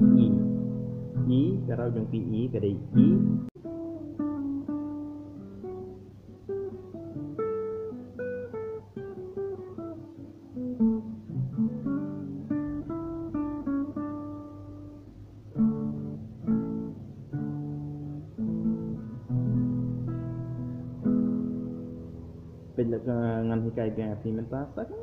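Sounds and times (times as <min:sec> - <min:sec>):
fingerstyle acoustic guitar: 0:00.0 - 0:23.8.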